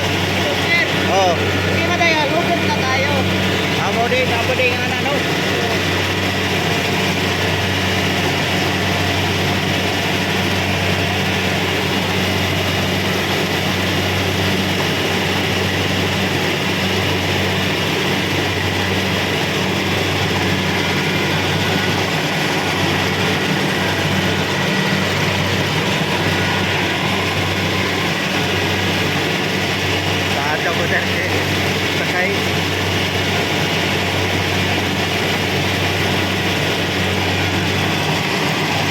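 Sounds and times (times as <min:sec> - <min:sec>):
diesel engine humming: 0:00.0 - 0:38.9
machinery rushing noise: 0:00.0 - 0:38.9.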